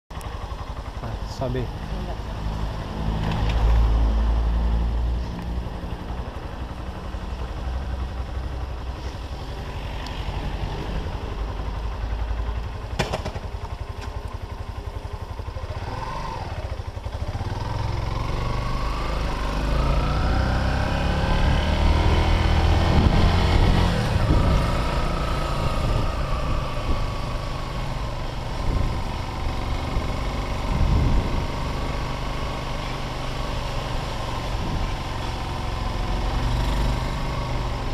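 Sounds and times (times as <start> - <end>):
motorcycle engine running: 0.1 - 37.9.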